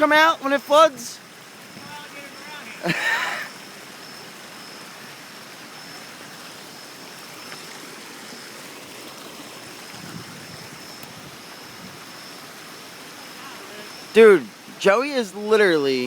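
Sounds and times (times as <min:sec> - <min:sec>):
flooded creek rushing: 0:00.0 - 0:16.0.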